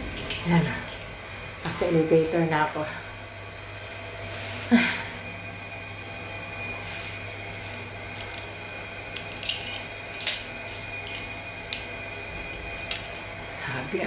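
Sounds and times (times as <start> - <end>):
elevator low hum: 0.0 - 14.0
faint steady whine: 0.0 - 14.0.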